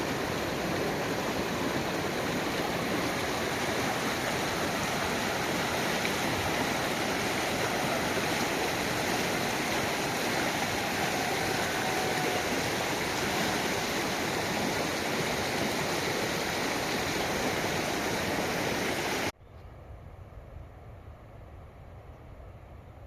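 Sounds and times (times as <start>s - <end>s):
mountain stream rushing: 0.0s - 19.3s.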